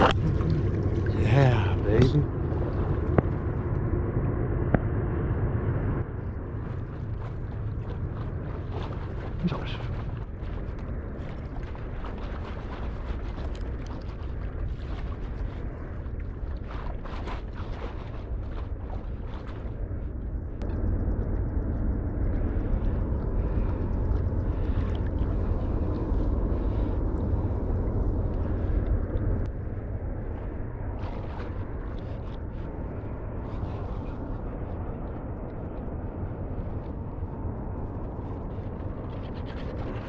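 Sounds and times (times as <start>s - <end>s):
water swishing around wading legs: 0.0s - 4.0s, 6.0s - 40.0s
wind rumble on microphone: 0.0s - 40.0s.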